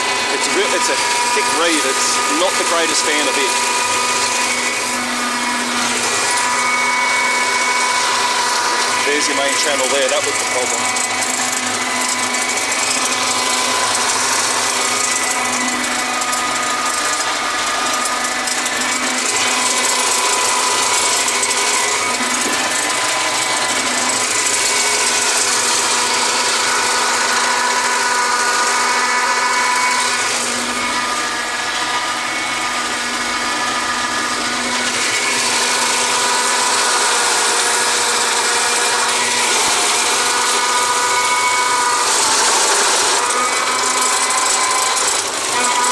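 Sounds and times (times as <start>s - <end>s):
tractor flail mower droning: 0.0s - 45.9s.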